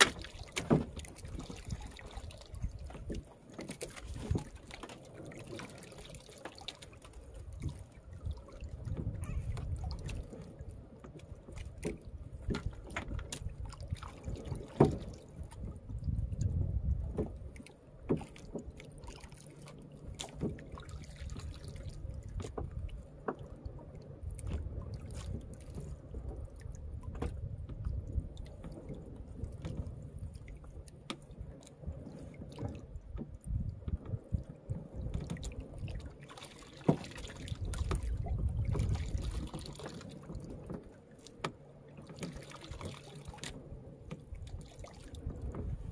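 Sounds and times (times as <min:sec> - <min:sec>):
water sloshing against boat hull: 0:00.0 - 0:45.9.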